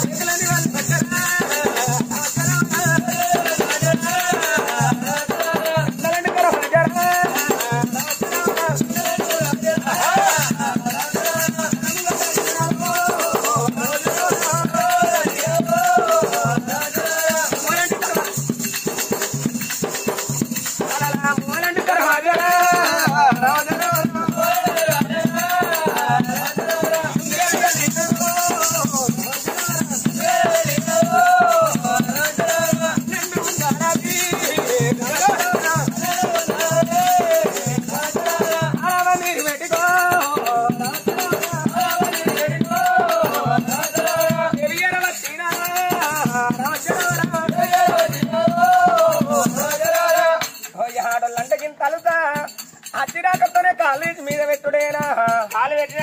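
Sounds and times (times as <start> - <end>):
jingling rattling percussion: 0.0 - 56.0.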